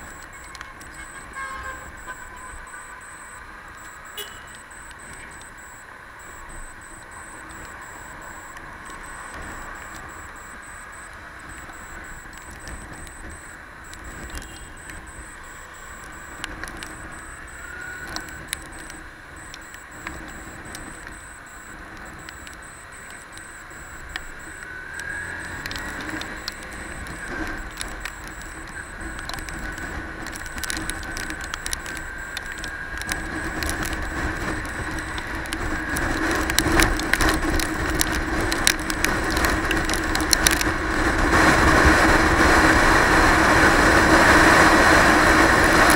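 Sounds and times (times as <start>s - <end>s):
scattered clicks: 0.0s - 45.9s.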